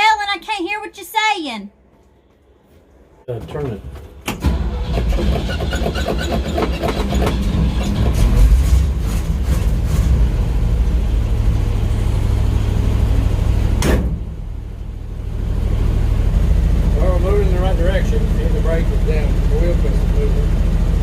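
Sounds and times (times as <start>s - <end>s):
truck engine cranking and running: 3.5s - 21.0s.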